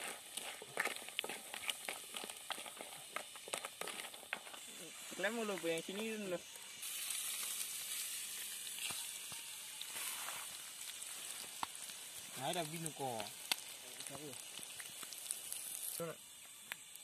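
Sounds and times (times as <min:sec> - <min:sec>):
crabs sizzling: 0:00.0 - 0:17.0.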